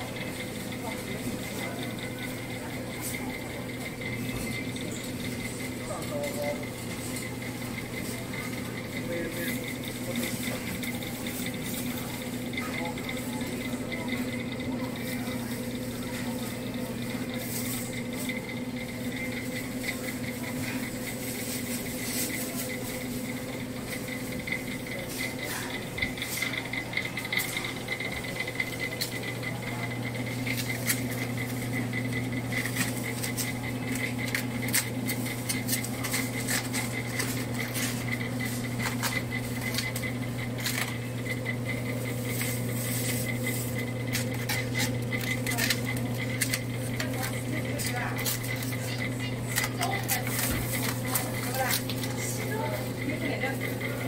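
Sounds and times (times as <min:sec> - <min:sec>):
refrigerated display case hum: 0:00.0 - 0:54.0.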